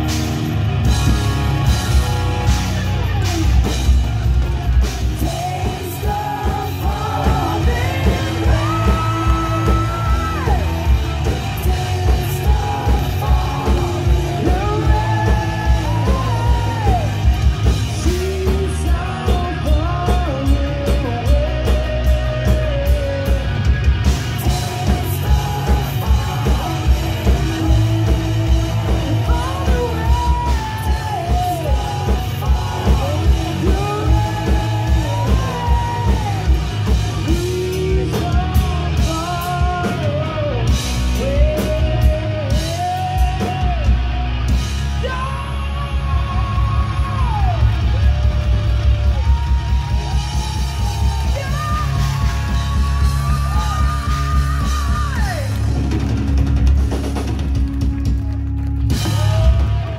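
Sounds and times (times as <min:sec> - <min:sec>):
live rock band playing: 0:00.0 - 0:59.9
person singing lead vocal: 0:04.9 - 0:56.0, 0:58.9 - 0:59.9.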